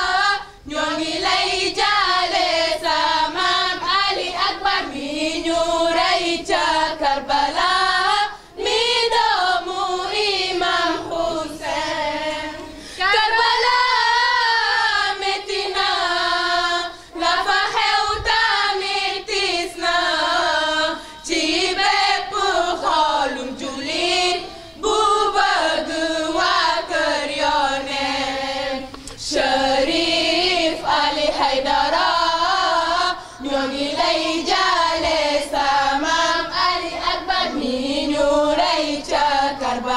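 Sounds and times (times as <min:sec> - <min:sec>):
women and children chanting: 0:00.0 - 0:39.9.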